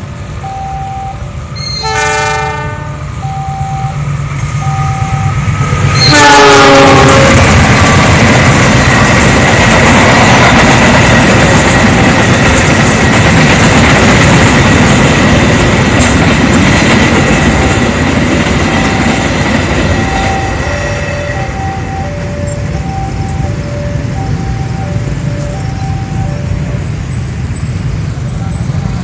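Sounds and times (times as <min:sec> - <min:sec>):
train wheels ringing on rails: 0:00.0 - 0:29.0.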